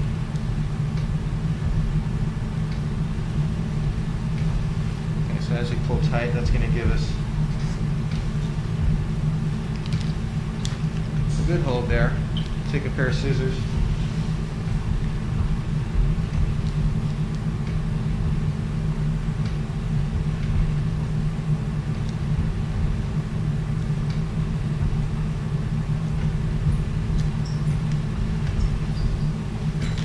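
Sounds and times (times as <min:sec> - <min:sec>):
low equipment hum: 0:00.0 - 0:30.0.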